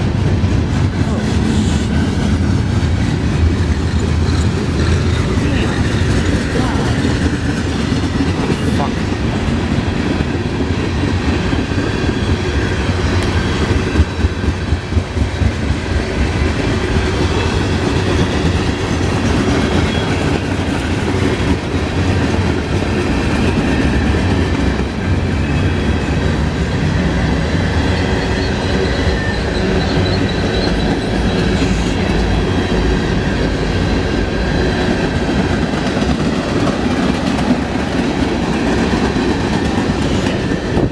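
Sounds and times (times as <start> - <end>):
train rolling past: 0.0 - 40.9.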